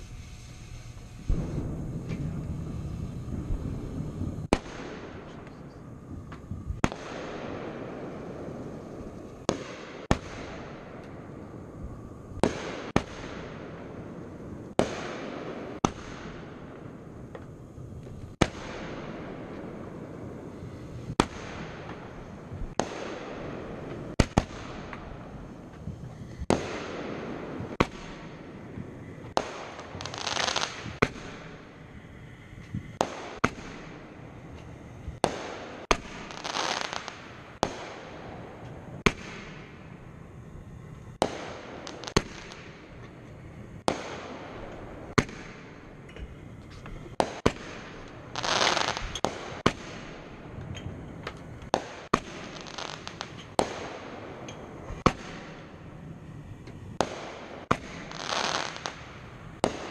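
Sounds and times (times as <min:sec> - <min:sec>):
fireworks bangs: 0:00.0 - 0:59.9
fireworks hissing: 0:00.0 - 0:59.9.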